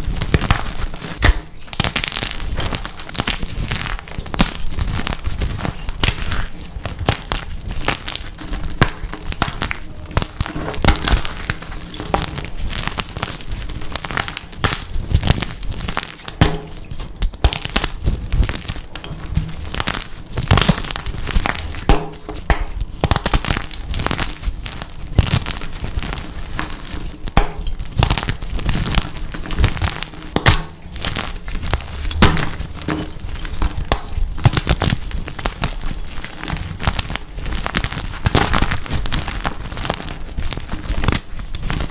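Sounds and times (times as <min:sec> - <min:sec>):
chalk being crushed by hand: 0:00.0 - 0:41.9.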